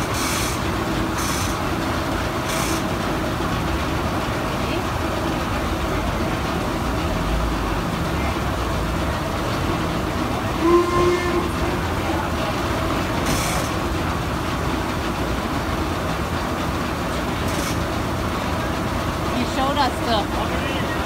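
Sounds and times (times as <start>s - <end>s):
sawmill machinery rumbling and clattering: 0.0s - 21.0s.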